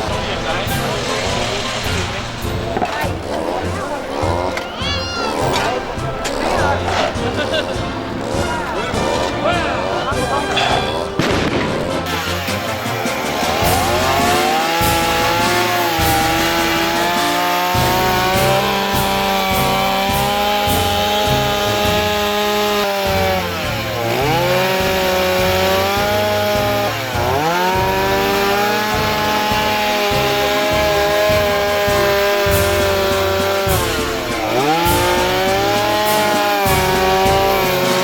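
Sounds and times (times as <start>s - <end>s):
chainsaw cutting wood: 0.0s - 9.5s, 11.0s - 38.0s.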